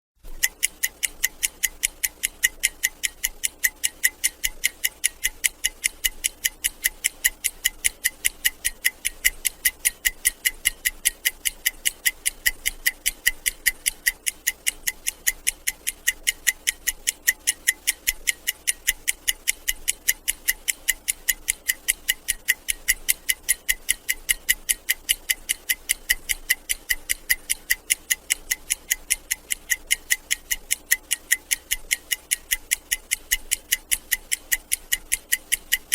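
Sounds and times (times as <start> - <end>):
stopwatch ticking: 0.2 - 35.9.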